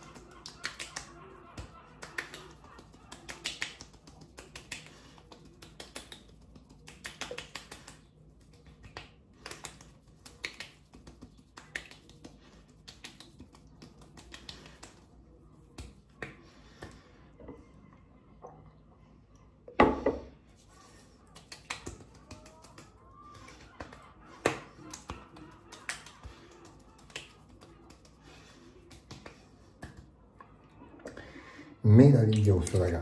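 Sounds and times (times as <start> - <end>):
palms slapping wet cheeks: 0.0 - 17.1, 20.7 - 30.2, 32.1 - 33.0.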